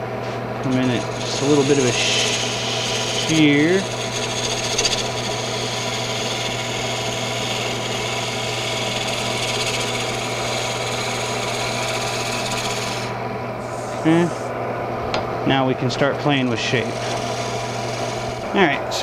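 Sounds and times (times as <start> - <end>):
lathe motor hum: 0.0 - 19.0
gouge cutting spinning wood: 0.5 - 14.5, 15.6 - 19.0.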